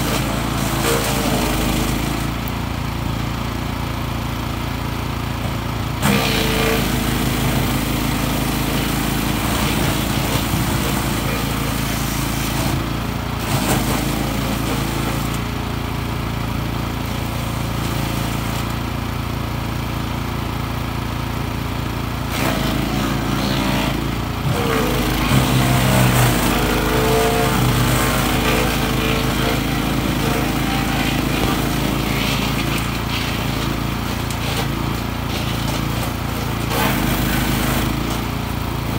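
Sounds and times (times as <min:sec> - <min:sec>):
wood chipper engine running: 0:00.0 - 0:38.9.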